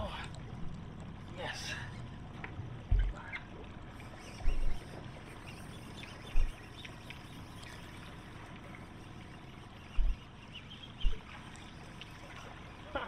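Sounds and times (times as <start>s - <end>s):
lake water washing: 1.3s - 13.0s.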